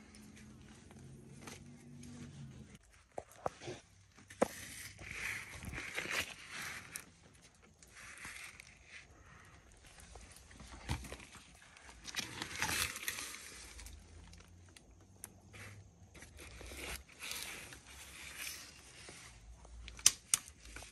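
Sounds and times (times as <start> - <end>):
rustling and scraping: 0.0 - 20.9.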